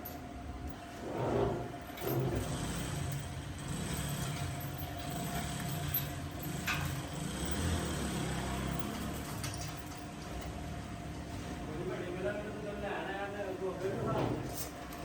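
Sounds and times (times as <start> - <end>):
workshop machinery rumbling: 0.0 - 15.0.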